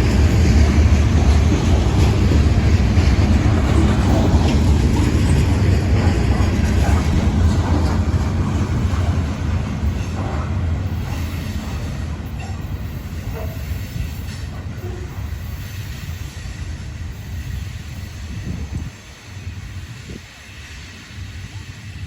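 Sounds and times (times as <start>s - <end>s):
freight train rumbling on rails: 0.0s - 22.0s.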